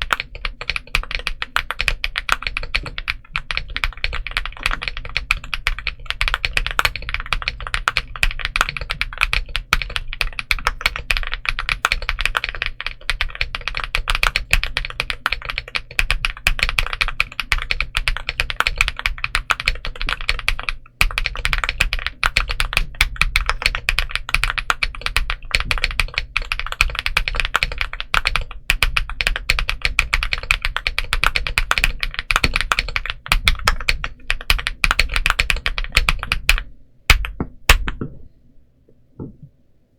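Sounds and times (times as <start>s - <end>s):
mechanical keyboard typing: 0.0s - 38.1s.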